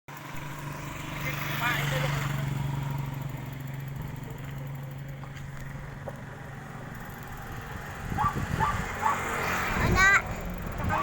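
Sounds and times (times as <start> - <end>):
vehicle motor humming: 0.1 - 11.0.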